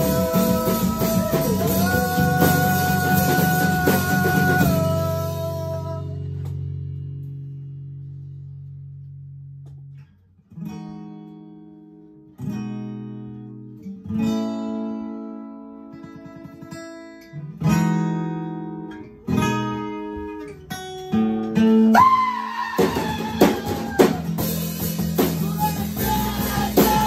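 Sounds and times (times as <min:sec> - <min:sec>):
acoustic guitar chords: 0:00.0 - 0:27.0.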